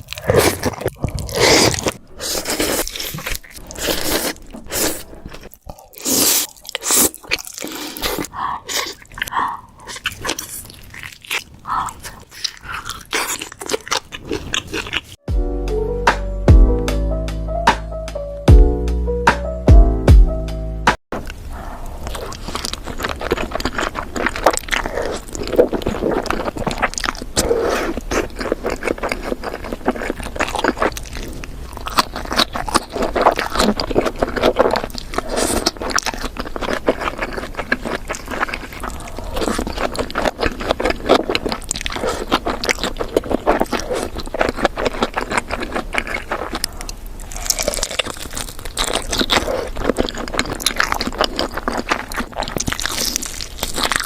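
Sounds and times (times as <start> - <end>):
chewing and crunching fried food: 0.0 - 15.2, 21.2 - 54.0.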